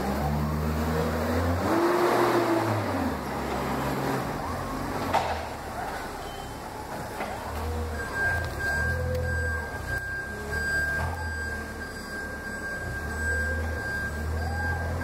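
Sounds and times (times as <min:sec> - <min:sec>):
forklift engine running: 0:00.0 - 0:15.0.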